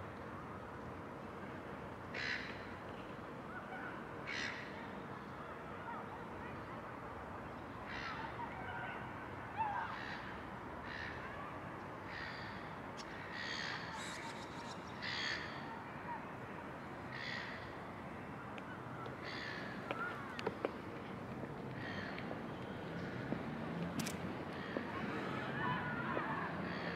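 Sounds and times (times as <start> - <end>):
outdoor ambience: 0.0 - 26.9.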